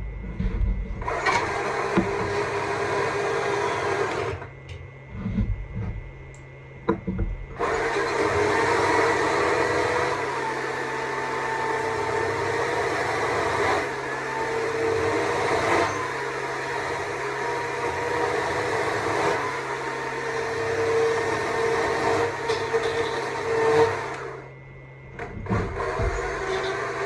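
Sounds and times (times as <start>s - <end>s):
chainsaw cutting wood: 1.0s - 4.4s, 7.6s - 24.4s, 25.5s - 27.0s.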